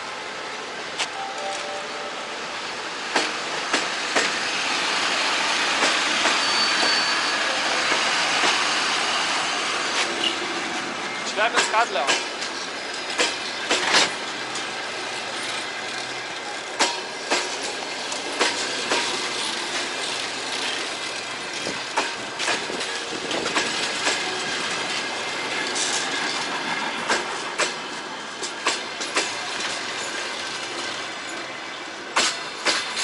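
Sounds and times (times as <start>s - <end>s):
train running noise: 0.0s - 33.0s
train wheels clacking over rail joints: 3.0s - 33.0s.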